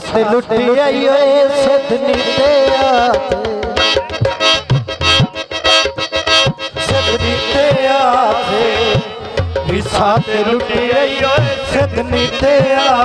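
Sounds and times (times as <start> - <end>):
tabla drumming: 0.0 - 13.0
sustained accompaniment: 1.8 - 13.0.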